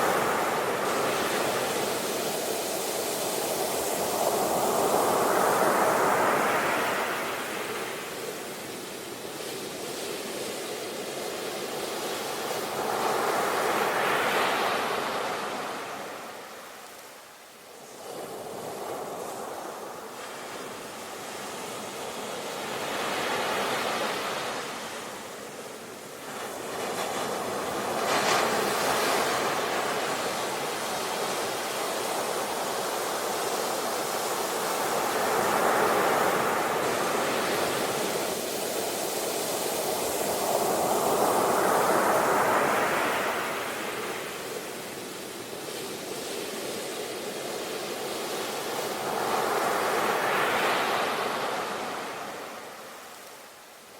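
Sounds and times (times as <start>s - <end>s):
ocean waves breaking on shore: 0.0s - 53.9s.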